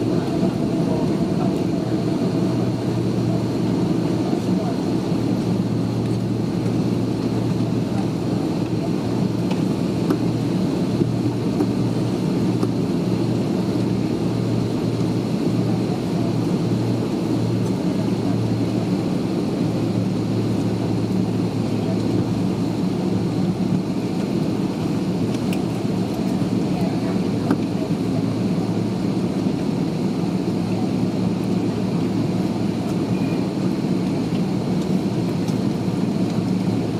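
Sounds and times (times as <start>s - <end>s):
aircraft engine hum: 0.0s - 36.9s.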